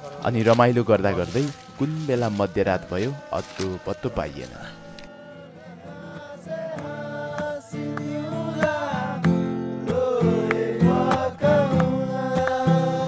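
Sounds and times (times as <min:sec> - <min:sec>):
acoustic guitar strumming: 0:00.0 - 0:13.0
person singing: 0:00.0 - 0:13.0.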